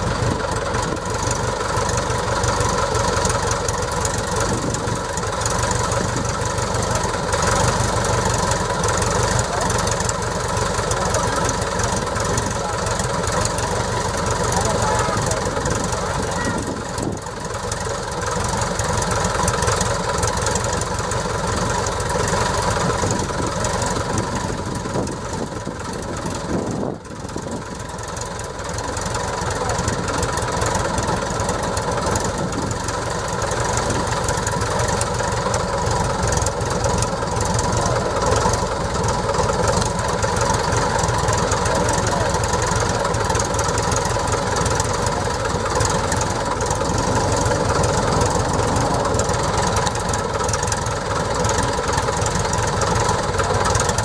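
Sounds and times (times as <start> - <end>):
light aircraft engine running: 0.0 - 54.0.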